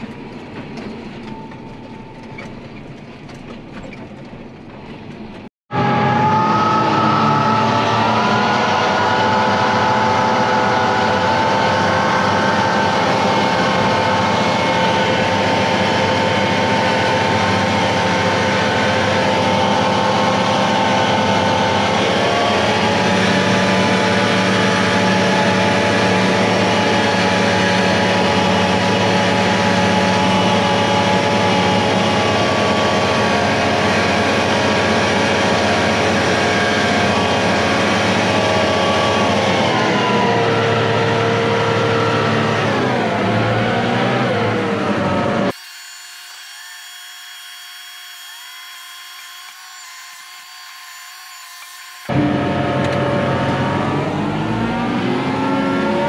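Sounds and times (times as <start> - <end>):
tractor diesel engine running: 0.0 - 45.5, 52.1 - 56.0.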